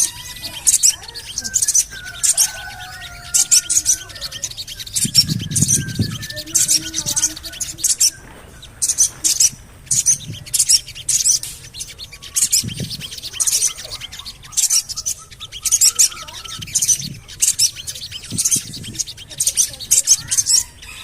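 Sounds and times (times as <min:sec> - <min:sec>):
bird high-pitched chirps: 0:00.0 - 0:21.0.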